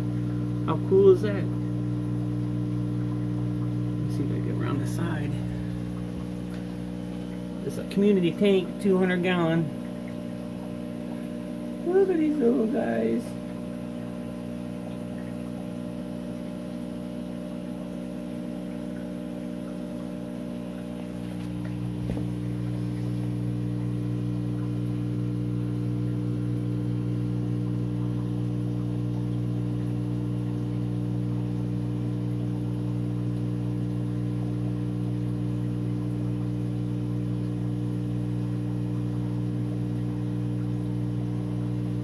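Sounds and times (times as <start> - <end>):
aquarium pump hum: 0.0 - 42.0.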